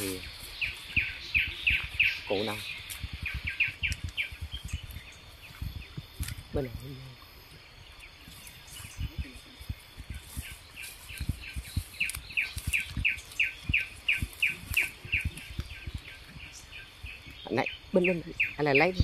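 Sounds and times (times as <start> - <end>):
footsteps: 0.0 - 6.8, 7.4 - 17.4
bird chirping: 0.0 - 19.0.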